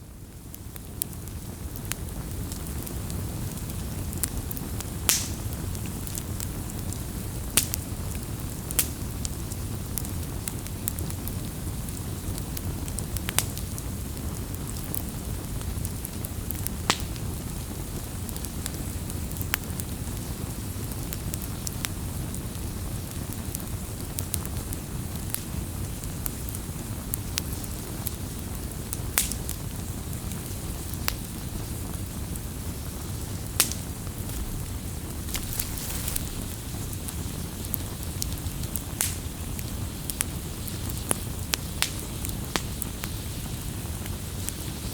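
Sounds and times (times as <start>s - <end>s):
campfire crackling and popping: 0.1s - 44.9s.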